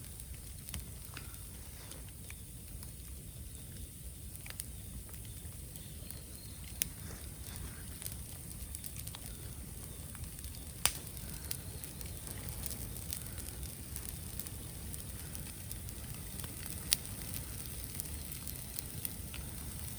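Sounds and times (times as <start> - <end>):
bamboo bonfire crackling and popping: 0.0 - 19.9.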